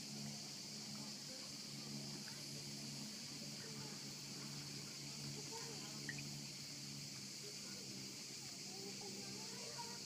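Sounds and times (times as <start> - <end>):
cicadas chorus: 0.0 - 10.0
faint distant voices: 0.0 - 10.0.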